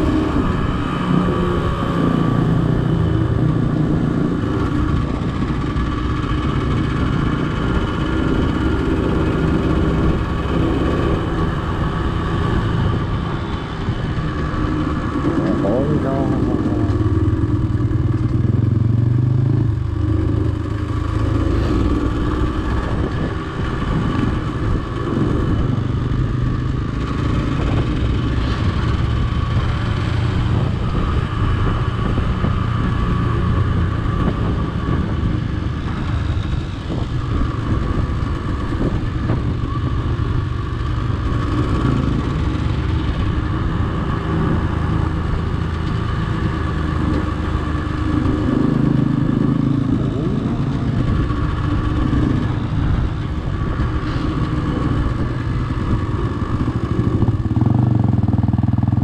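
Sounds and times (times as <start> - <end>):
off-road motorcycle engine running: 0.0 - 59.0.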